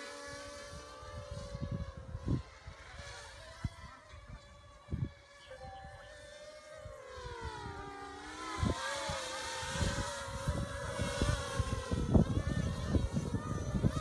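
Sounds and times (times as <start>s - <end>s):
drone rotors buzzing: 0.0s - 14.0s.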